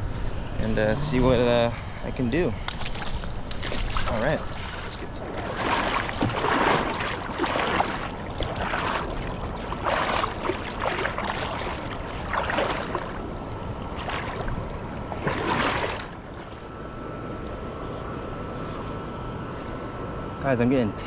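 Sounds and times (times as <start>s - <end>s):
river water sloshing and splashing: 2.7s - 20.0s.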